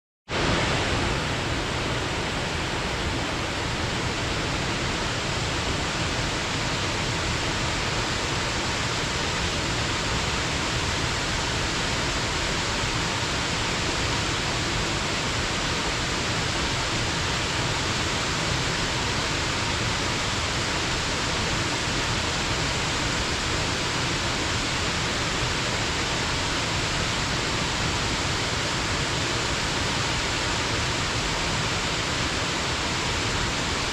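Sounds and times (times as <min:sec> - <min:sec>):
waterfall splashing: 0:00.3 - 0:33.9.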